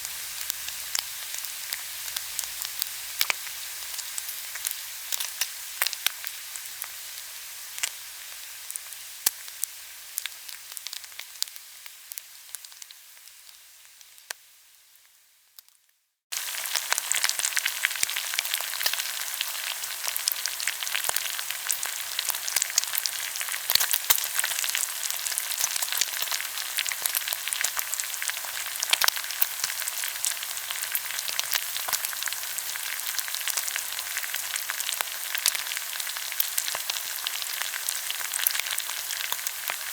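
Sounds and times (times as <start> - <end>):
pork sizzling on a grill: 0.0 - 39.9.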